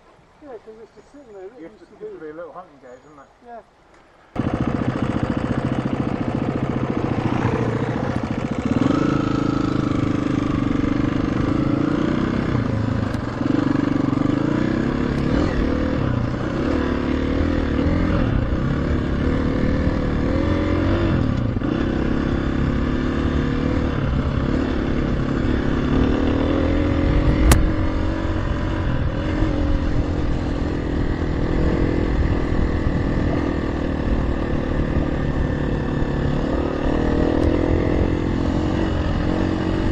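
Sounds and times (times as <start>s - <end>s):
dirt bike engine revving: 4.4s - 39.9s.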